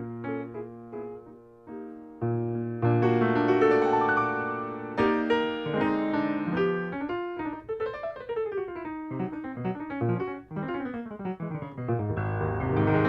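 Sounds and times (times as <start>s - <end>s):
jazz piano solo: 0.0s - 13.0s.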